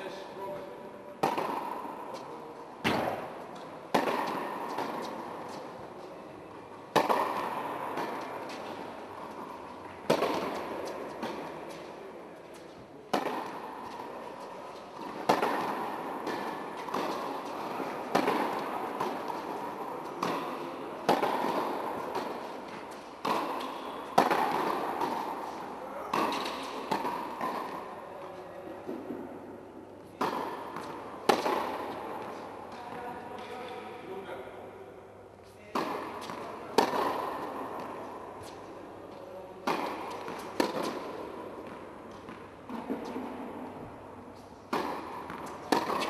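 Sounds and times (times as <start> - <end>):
tennis ball hits and bounces: 1.2 - 33.9, 35.6 - 44.0, 44.7 - 46.0.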